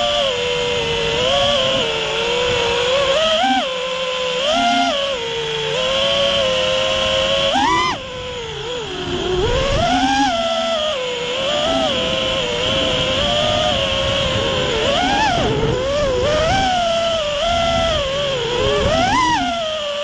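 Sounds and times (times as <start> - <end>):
rushing wind noise: 0.0 - 3.3, 5.3 - 19.8
drone motors whining: 0.0 - 20.0.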